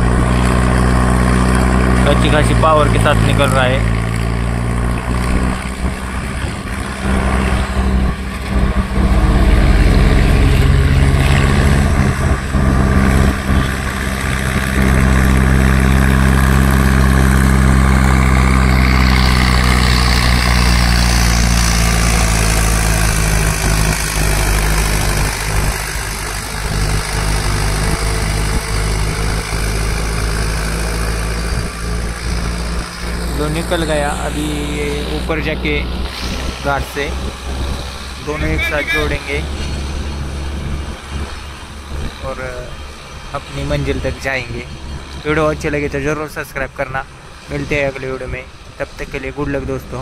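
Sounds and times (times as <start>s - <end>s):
tractor diesel engine under load: 0.0s - 50.0s.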